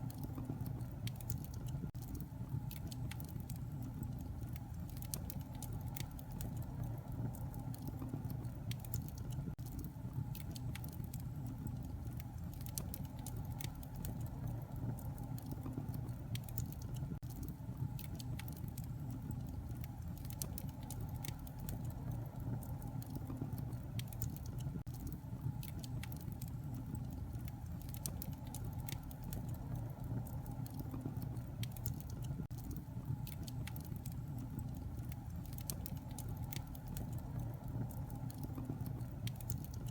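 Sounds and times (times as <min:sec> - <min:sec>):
fire crackles and pops: 0:00.0 - 0:39.9.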